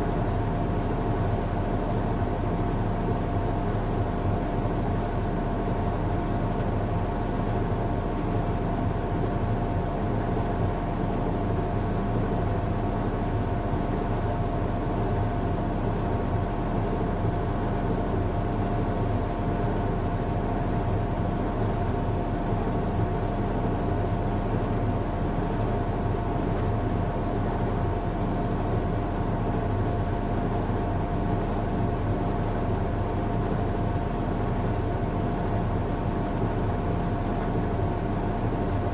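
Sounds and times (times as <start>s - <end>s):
washing machine humming: 0.0s - 38.9s
washing machine whine: 0.0s - 38.9s.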